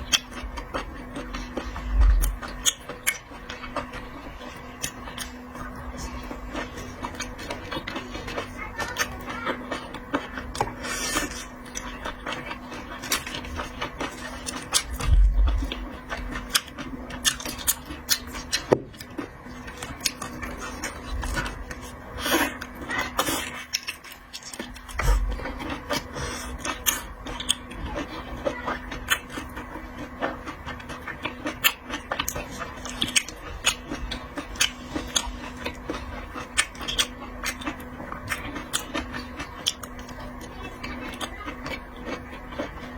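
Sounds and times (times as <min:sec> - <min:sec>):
chewing and shellfish smacks: 0:00.0 - 0:42.9
steady low hum: 0:00.0 - 0:42.9.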